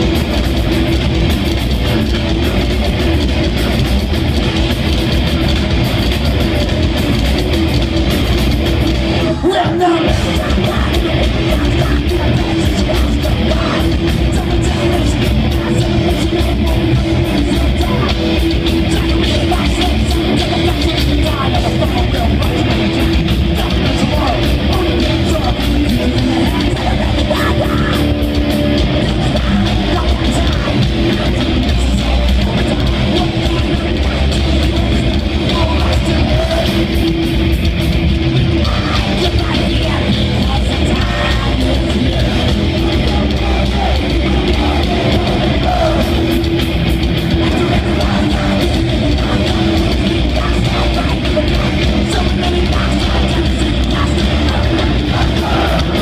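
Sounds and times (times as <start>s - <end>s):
distorted electric guitars: 0.0s - 56.0s
fast drums: 0.0s - 56.0s
shouted vocals: 9.0s - 37.0s, 38.5s - 56.0s.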